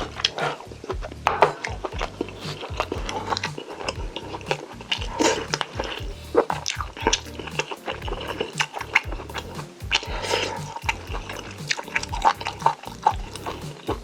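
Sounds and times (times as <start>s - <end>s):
chewing and eating: 0.0s - 14.0s
music with low beat: 0.0s - 14.0s.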